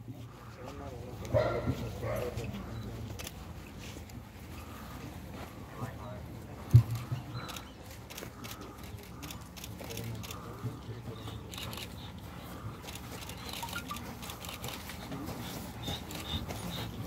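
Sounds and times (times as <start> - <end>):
murmur of voices: 0.0 - 17.0
light taps and rustles on grass: 0.1 - 17.0.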